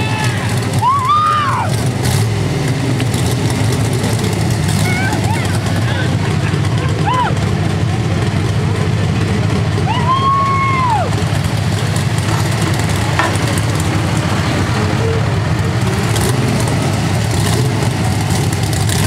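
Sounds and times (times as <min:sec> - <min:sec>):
truck and tractor engines idling: 0:00.0 - 0:19.0.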